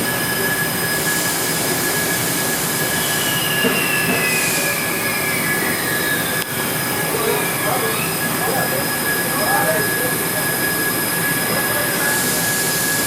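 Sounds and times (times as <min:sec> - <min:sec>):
machine high whine: 0:00.0 - 0:13.0
whine gliding downward: 0:00.0 - 0:13.0.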